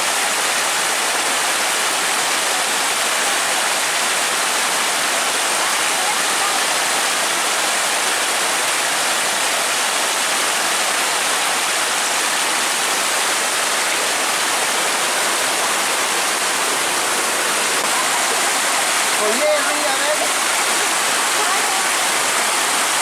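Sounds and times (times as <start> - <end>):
floodwater rushing: 0.0 - 23.0
heavy rain: 0.0 - 23.0.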